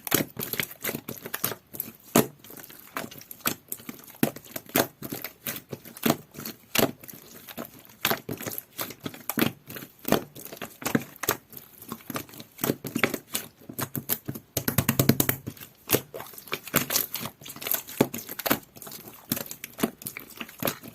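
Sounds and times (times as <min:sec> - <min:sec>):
slime crackling and popping: 0:00.0 - 0:20.9.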